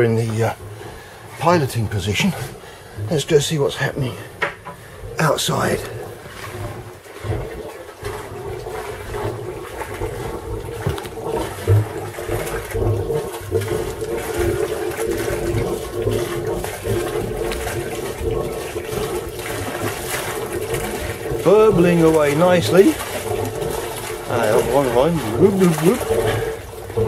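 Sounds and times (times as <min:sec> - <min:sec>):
cooling water splashing: 0:00.0 - 0:27.0.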